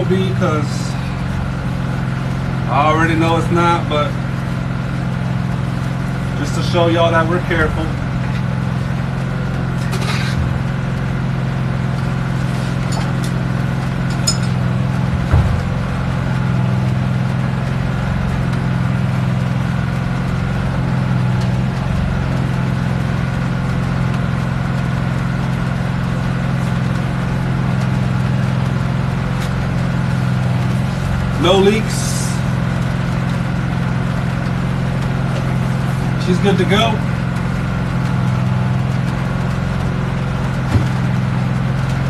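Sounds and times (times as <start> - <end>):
portable generator humming: 0.0 - 42.0.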